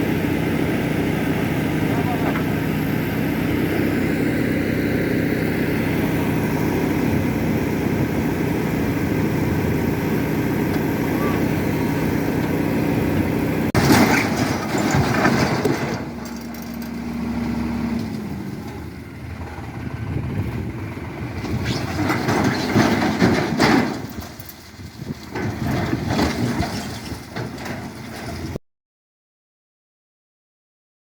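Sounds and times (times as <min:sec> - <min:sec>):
engine running: 0:00.0 - 0:28.6.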